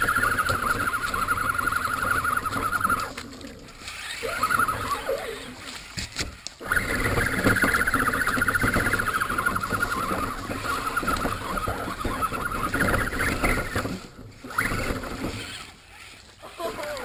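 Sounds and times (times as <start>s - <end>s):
electric motor whining: 0.0s - 17.0s
splashing and scraping: 0.5s - 17.0s.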